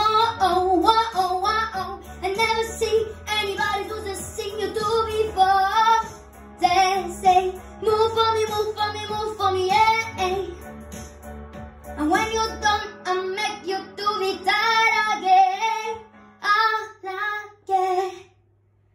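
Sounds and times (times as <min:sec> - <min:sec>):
boy singing into a microphone: 0:00.0 - 0:10.6, 0:12.0 - 0:18.3
pop backing track with beat: 0:00.0 - 0:17.2.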